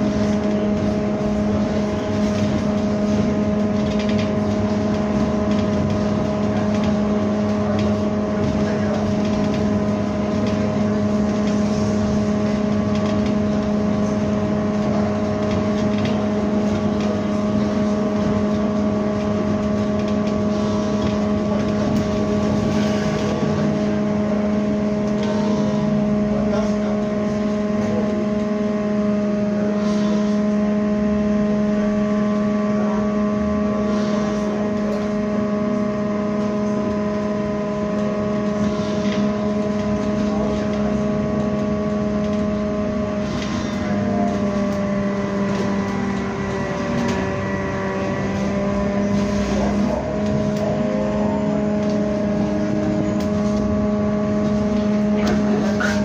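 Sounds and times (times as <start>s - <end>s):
electric motor hum: 0.0s - 56.0s
road noise: 0.0s - 56.0s.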